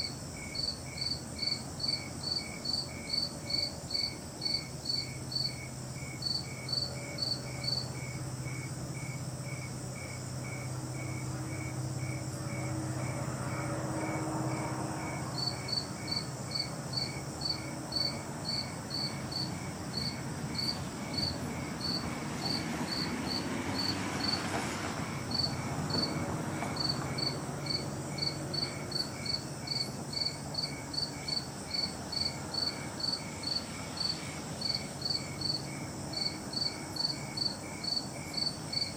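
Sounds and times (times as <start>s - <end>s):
insects chirping: 0.0s - 38.9s.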